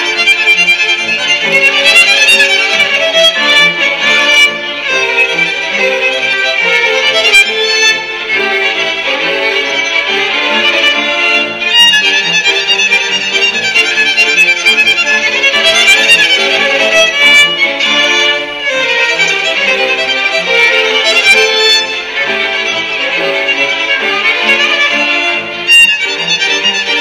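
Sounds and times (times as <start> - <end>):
string orchestra playing: 0.0 - 27.0.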